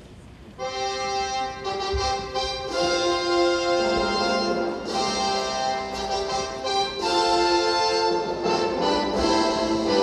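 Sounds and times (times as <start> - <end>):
instrumental accompaniment: 0.5 - 10.0.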